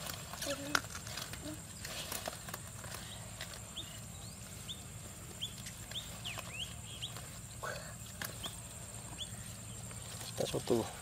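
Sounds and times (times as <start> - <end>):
small bird chirping: 0.4 - 10.9.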